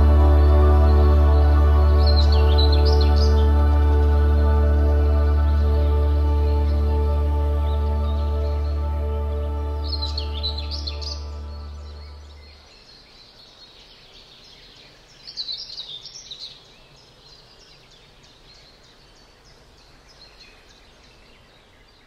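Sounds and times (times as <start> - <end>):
birds chirping and singing: 0.0 - 22.0
faint outdoor hiss: 0.0 - 22.0.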